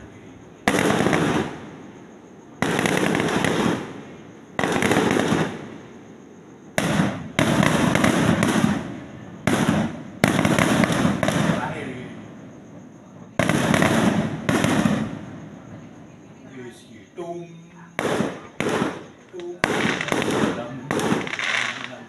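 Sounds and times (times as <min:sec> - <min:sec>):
fireworks crackling bursts: 0:00.0 - 0:15.9, 0:18.0 - 0:22.0.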